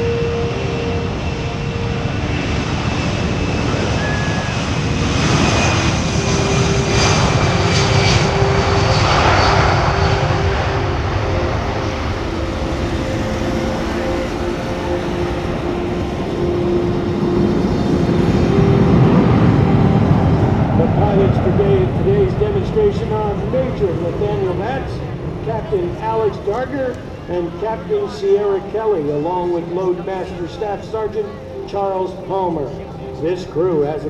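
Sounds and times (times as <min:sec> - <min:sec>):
jet engines roaring at takeoff: 0:00.0 - 0:34.0.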